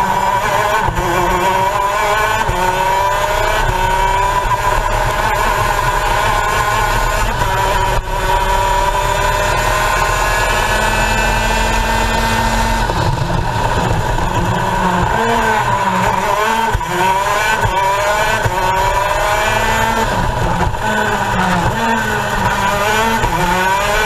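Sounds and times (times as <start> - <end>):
kart engine revving: 0.0 - 24.0.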